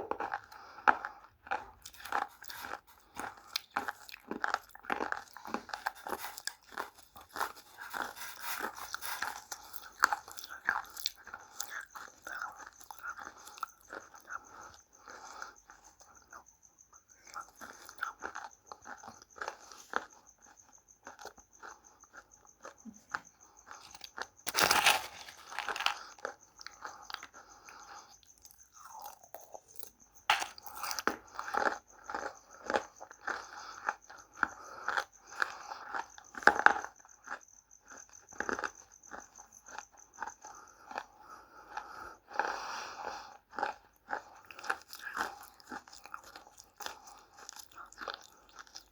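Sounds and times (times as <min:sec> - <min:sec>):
crunching and chewing dry clay: 0:00.0 - 0:48.9.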